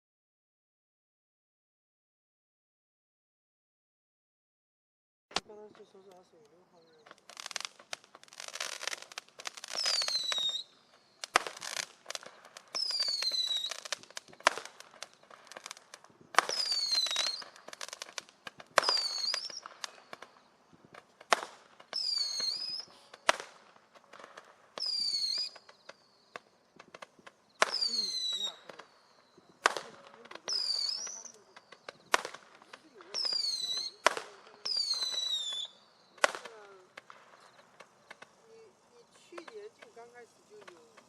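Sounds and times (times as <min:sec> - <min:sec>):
firework crackling: 0:05.3 - 0:41.0
roman candle firing: 0:05.3 - 0:41.0
falling firework whistles: 0:06.8 - 0:41.0.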